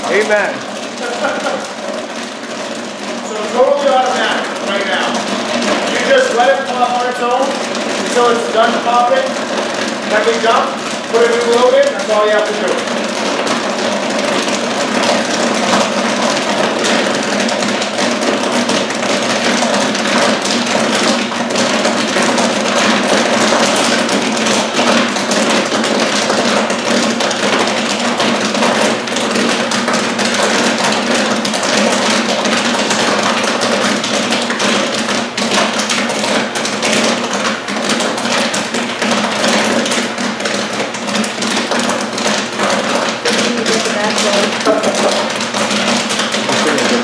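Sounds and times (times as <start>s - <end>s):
machine motor and fan hum: 0.0s - 47.0s
popcorn popping: 0.0s - 47.0s.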